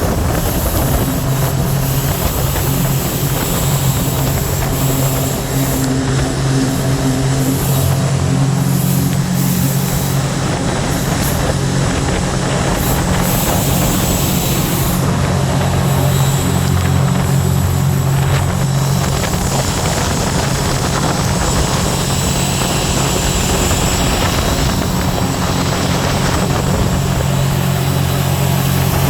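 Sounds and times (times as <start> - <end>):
jet boat engine running: 0.0 - 29.0.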